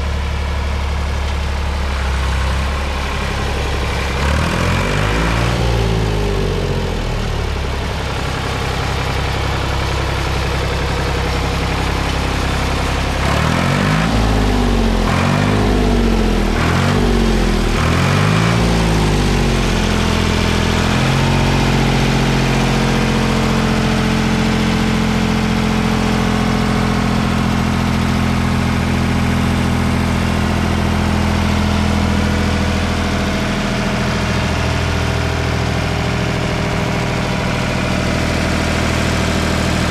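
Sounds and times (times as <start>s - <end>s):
tractor engine revving and idling: 0.0s - 39.9s.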